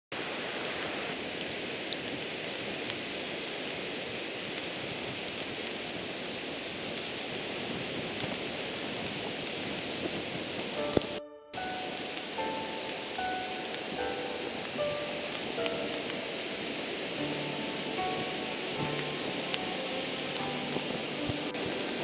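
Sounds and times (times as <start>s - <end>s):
small waves washing on beach: 0.2s - 22.0s.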